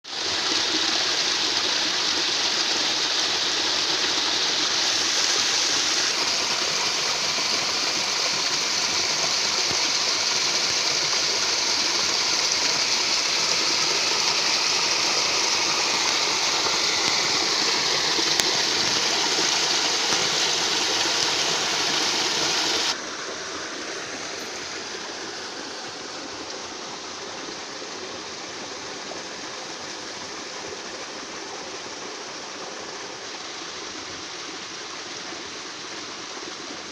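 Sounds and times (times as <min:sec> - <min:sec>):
rush of flowing water: 0:00.0 - 0:36.9.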